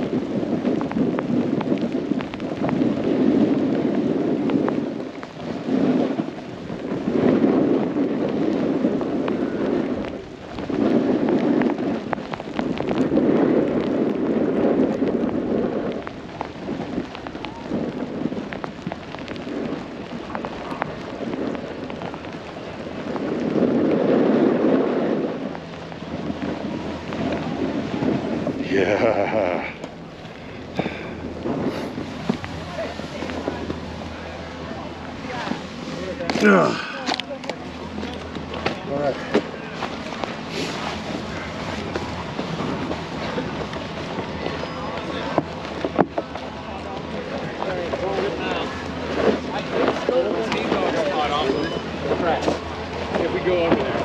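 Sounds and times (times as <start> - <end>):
snowboard scraping over snow: 0.0 - 54.0
wind rushing over microphone: 0.0 - 54.0.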